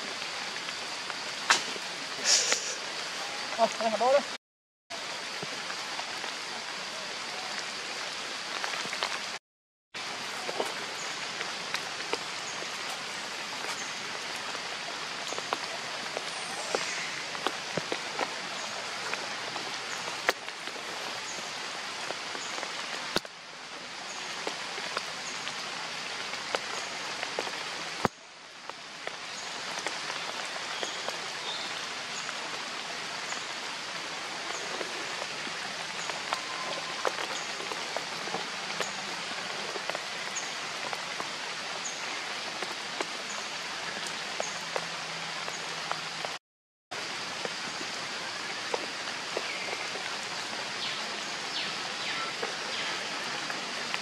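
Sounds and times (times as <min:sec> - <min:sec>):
rain falling on leaves: 0:00.0 - 0:09.4, 0:10.0 - 0:54.0.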